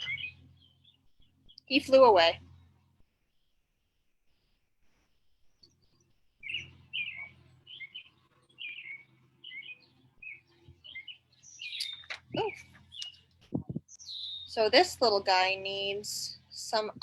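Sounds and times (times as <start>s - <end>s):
bird chirping: 0.0s - 3.7s, 5.3s - 17.0s
faint low hum: 0.0s - 17.0s.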